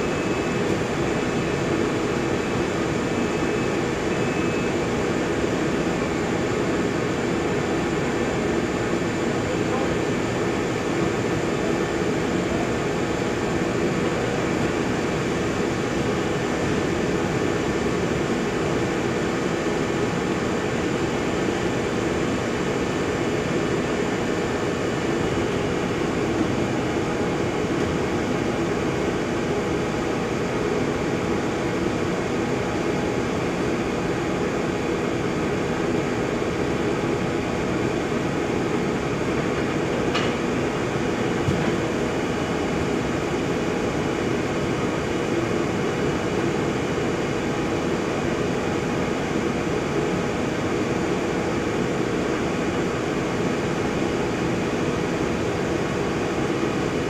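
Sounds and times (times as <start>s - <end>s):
machine humming with steady tones: 0.0s - 57.0s.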